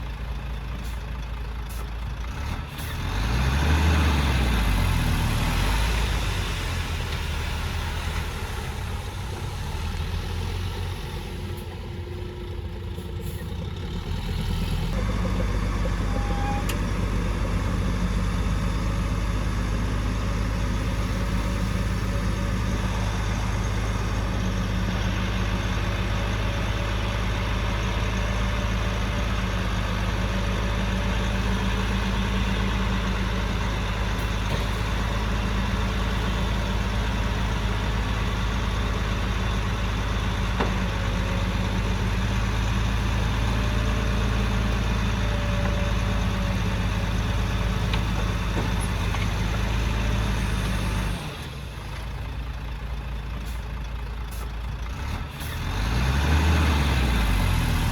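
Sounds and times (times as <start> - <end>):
heavy engine deep drone: 4.2 - 55.9.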